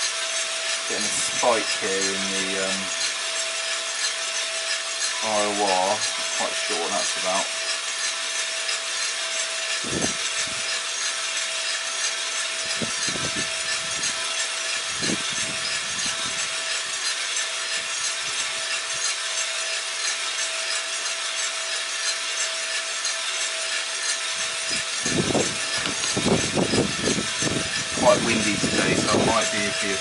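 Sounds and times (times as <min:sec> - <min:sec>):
fan air rushing: 0:00.0 - 0:30.0
coffee beans tumbling in drum: 0:04.6 - 0:30.0.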